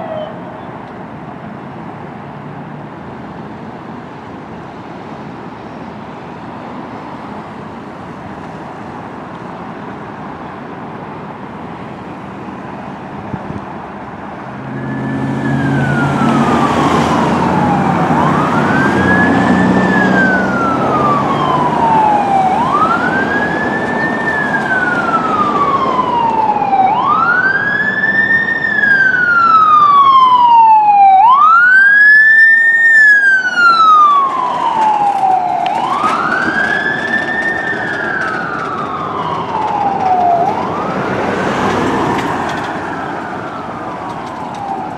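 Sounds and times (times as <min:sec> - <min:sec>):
emergency vehicle siren wailing: 0:00.0 - 0:01.9, 0:03.0 - 0:44.9
street traffic: 0:00.0 - 0:44.9.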